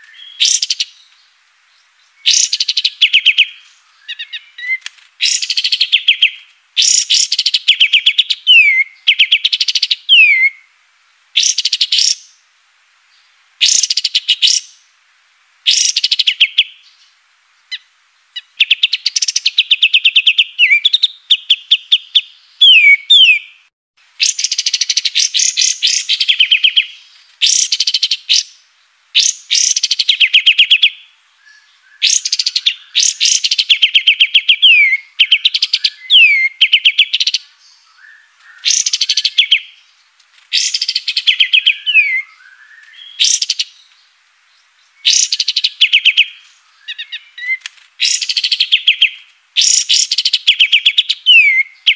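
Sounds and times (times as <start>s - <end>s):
songbird singing rapid trills: 0.0s - 10.7s, 11.3s - 12.4s, 13.2s - 14.8s, 15.6s - 23.6s, 24.2s - 51.9s.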